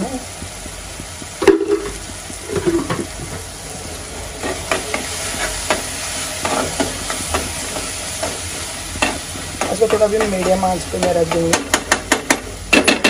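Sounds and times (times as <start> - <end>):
masala sizzling in a pan: 0.0 - 13.0.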